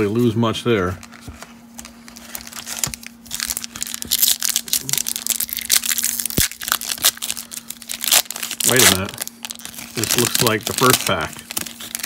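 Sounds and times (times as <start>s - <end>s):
wrapper crinkling and tearing: 1.0s - 12.0s.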